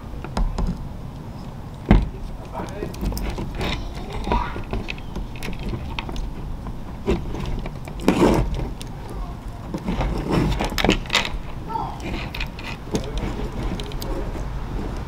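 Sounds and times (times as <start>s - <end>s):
plastic and metal parts clicking: 0.2s - 15.0s.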